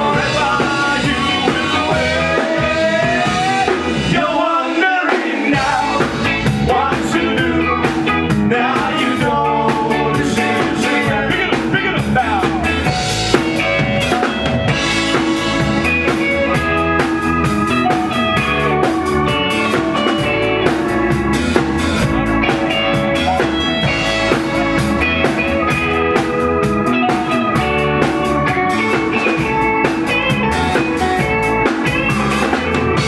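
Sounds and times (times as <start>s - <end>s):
drum kit beat: 0.0s - 33.0s
live ska band playing: 0.0s - 33.0s.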